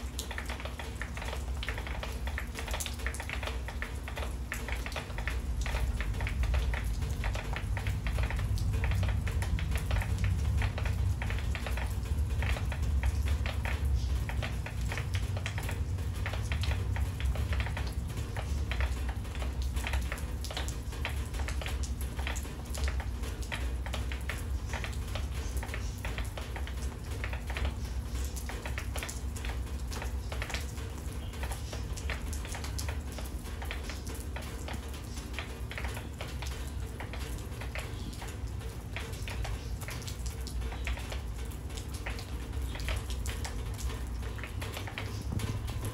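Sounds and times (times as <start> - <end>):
rain falling: 0.0 - 45.9
water dripping off roof edge: 0.0 - 45.9.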